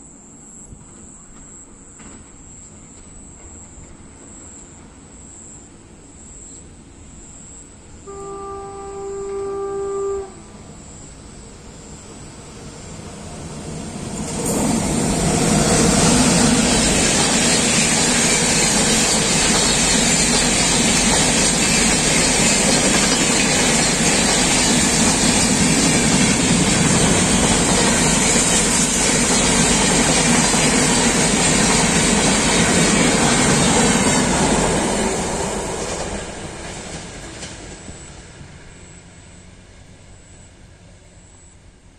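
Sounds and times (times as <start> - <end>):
train passing at high speed: 6.8 - 41.9.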